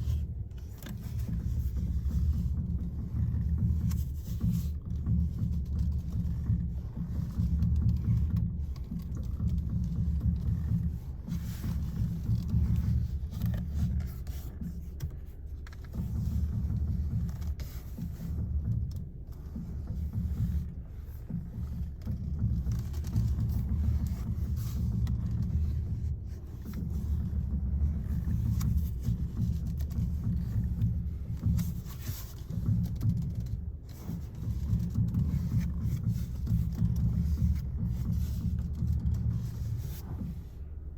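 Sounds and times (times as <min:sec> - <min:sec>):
car engine rumble: 0:00.0 - 0:40.9
steering pops: 0:00.0 - 0:40.9.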